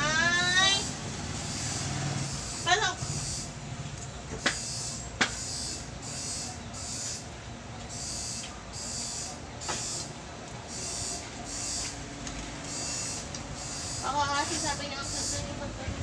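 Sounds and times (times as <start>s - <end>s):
rhythmic pulsing hiss: 0.0s - 16.0s.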